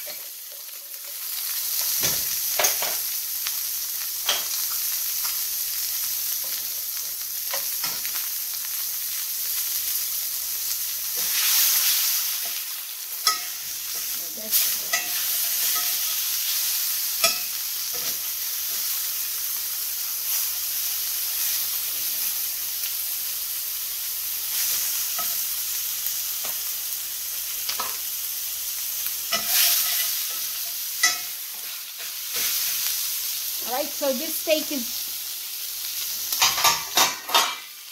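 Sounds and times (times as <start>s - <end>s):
steak sizzling in a skillet: 0.0s - 37.9s.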